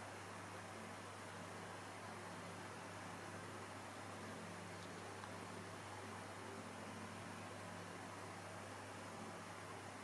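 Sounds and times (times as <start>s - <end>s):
faint hum: 0.0s - 10.0s
steady low hiss: 0.0s - 10.0s.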